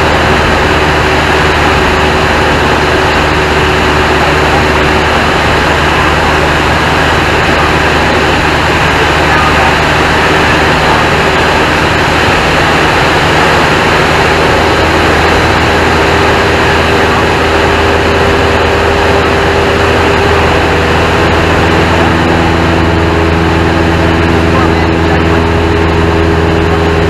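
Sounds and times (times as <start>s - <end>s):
airflow rushing: 0.0s - 27.0s
propeller airplane engine: 0.0s - 27.0s.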